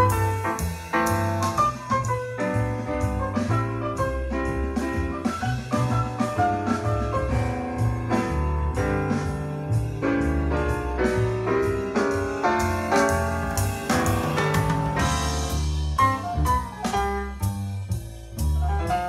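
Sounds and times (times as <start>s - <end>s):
piano music with bass and drums: 0.0s - 19.0s.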